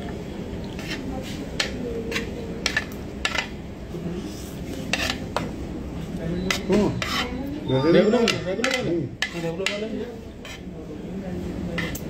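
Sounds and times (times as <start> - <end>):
restaurant background chatter: 0.0 - 12.0.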